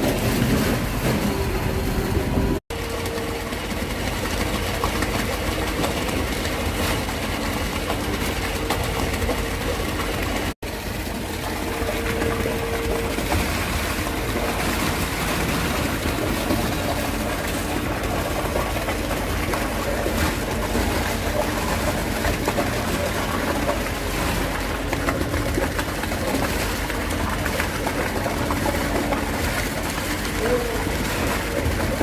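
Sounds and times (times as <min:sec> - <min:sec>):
concrete pumping noise: 0:00.0 - 0:32.0
truck engine rumble: 0:00.0 - 0:32.0.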